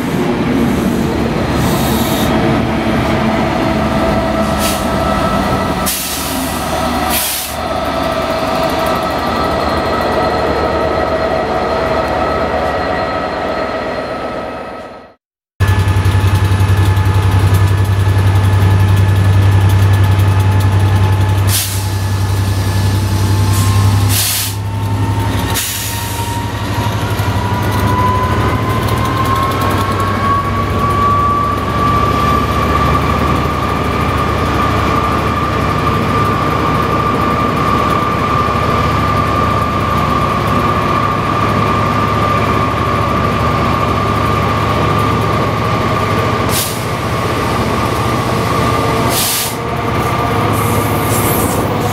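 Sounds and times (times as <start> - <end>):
diesel locomotive engine drone: 0.0 - 51.9
rising locomotive whine: 0.0 - 51.9.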